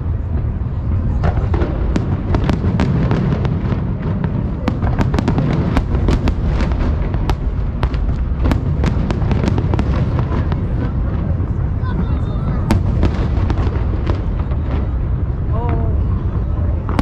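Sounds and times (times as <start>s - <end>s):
fireworks cracking and banging: 0.0s - 17.0s
low rumble of explosions: 0.0s - 17.0s.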